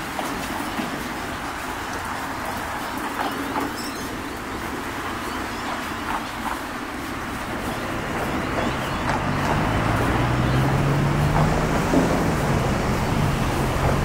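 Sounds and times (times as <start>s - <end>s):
cars passing on road: 0.0s - 14.0s.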